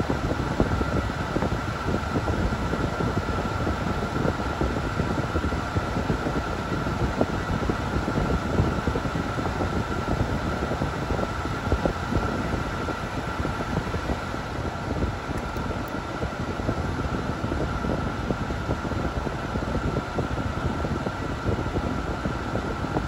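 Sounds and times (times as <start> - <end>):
air blowing from car vent: 0.0 - 23.0
faint steady whine: 0.0 - 23.0
wind buffeting microphone: 0.0 - 23.0.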